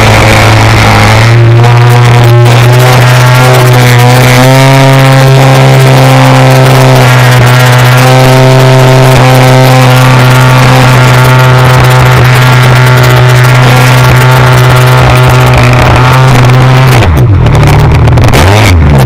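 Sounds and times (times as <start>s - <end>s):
model airplane engine and propeller: 0.0s - 18.9s.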